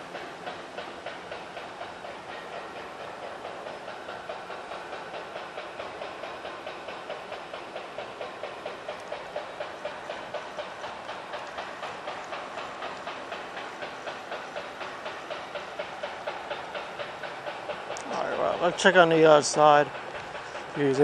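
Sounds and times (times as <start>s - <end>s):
light hiss: 0.0s - 20.8s.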